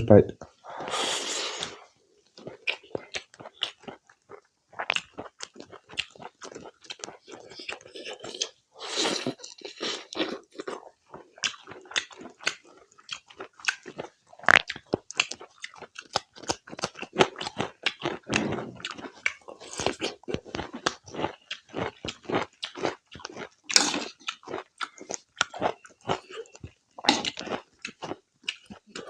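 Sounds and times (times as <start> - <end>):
person chewing food: 0.4 - 29.0.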